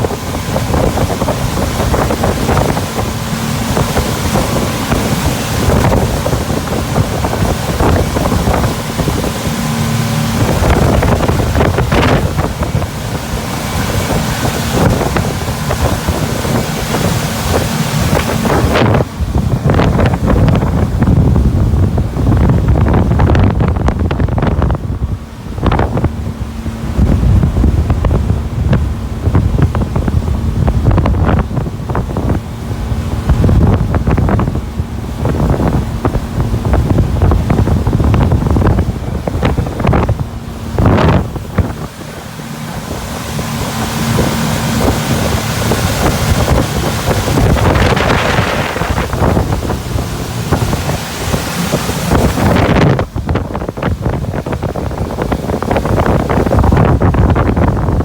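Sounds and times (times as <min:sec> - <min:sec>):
boat running on water: 0:00.0 - 0:58.0
wind buffeting microphone: 0:00.0 - 0:58.0.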